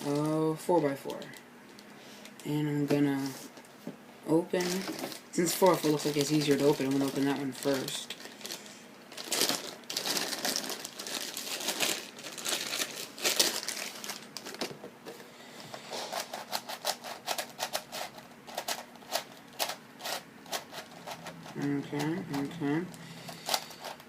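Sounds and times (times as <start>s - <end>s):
plastic packaging crinkling: 0.0s - 2.4s, 4.6s - 14.9s, 16.0s - 22.6s.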